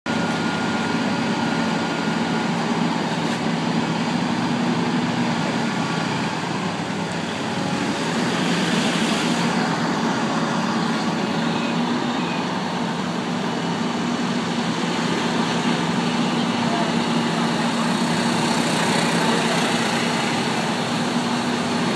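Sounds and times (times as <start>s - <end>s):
heavy diesel engine running: 0.1s - 21.9s.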